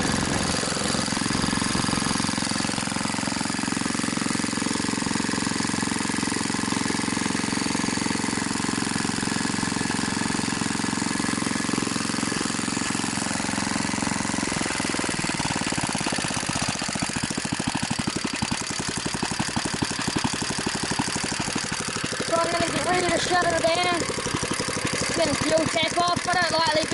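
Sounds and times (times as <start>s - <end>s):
unmuffled engine running: 0.0s - 26.9s.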